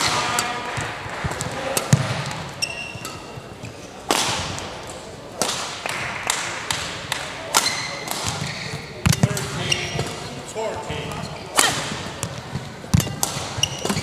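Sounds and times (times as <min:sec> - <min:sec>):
shoes on court floor: 0:00.0 - 0:05.1, 0:07.6 - 0:14.0
racket hitting shuttlecock: 0:00.0 - 0:10.3, 0:11.1 - 0:14.0
murmur of voices: 0:00.0 - 0:14.0.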